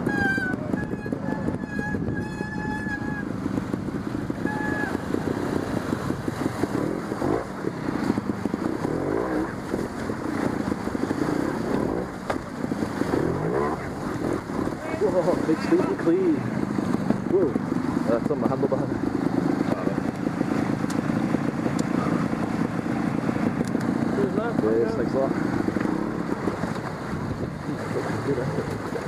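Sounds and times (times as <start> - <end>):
motorcycle engine at low revs: 3.2 - 29.0.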